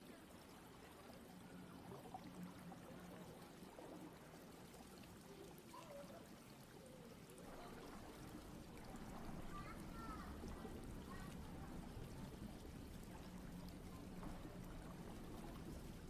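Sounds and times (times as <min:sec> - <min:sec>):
faint trickle of water: 0:00.0 - 0:16.0.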